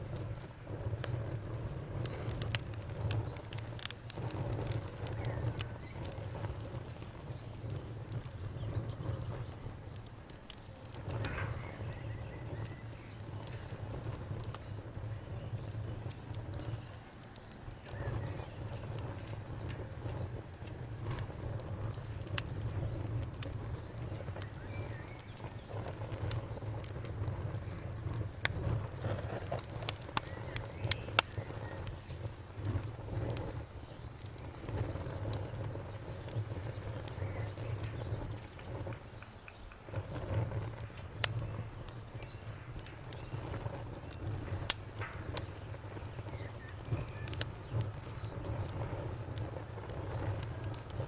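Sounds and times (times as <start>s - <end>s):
campfire crackling and popping: 0.0s - 51.0s
cricket trill: 0.0s - 51.0s.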